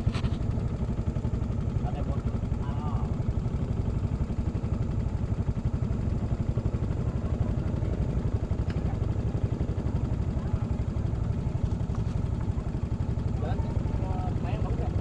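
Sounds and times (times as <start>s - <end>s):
scooter engine running slowly: 0.0s - 15.0s.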